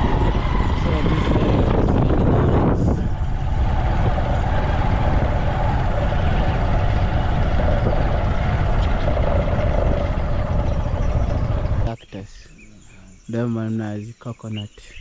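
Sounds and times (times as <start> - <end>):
motor vehicle engine rumble: 0.0 - 13.2
constant hum: 0.0 - 14.4.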